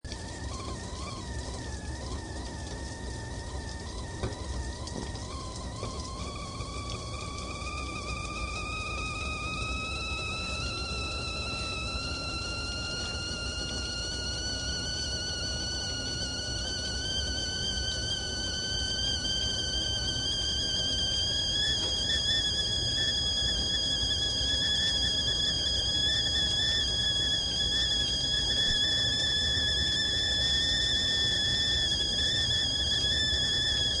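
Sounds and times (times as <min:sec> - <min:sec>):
whistling teapot: 0:00.0 - 0:34.0.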